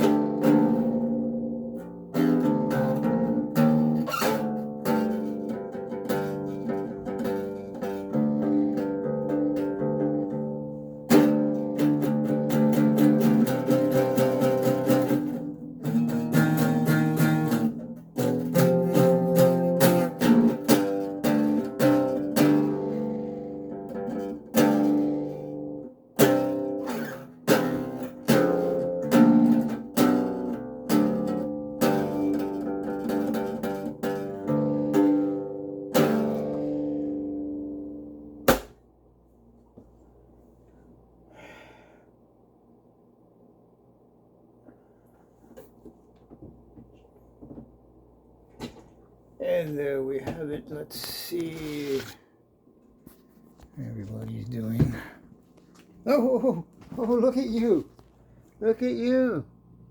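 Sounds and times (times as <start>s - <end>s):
acoustic bass guitar playing: 0.0s - 41.2s, 53.1s - 59.9s.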